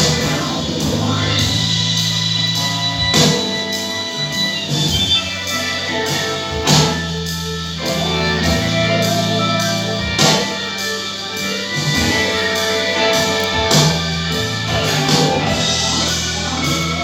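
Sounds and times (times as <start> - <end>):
music with guitar and drums: 0.0 - 17.0.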